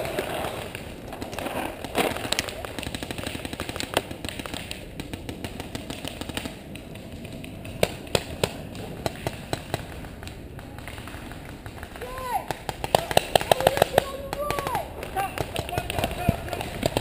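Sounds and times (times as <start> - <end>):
paintball markers firing: 1.7 - 17.0.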